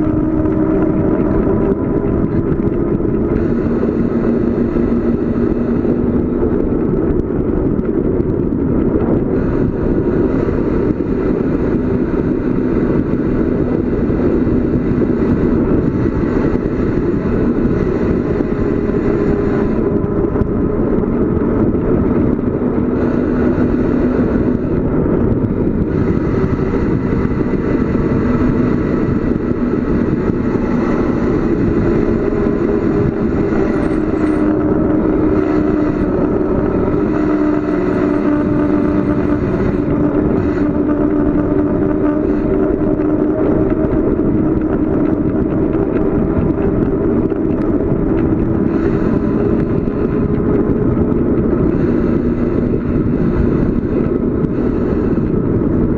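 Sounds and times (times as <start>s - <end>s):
steady low hum: 0.0s - 55.9s
wind roaring over microphone: 0.0s - 55.9s.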